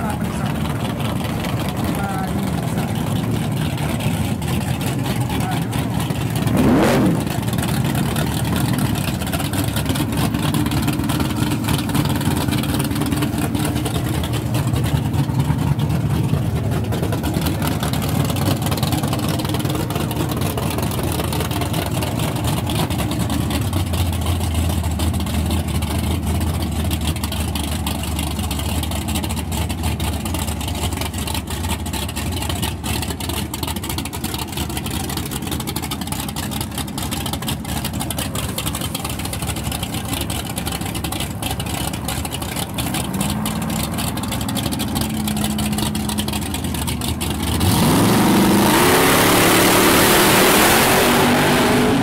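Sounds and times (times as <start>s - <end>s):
race car engine idling loudly: 0.0s - 52.0s.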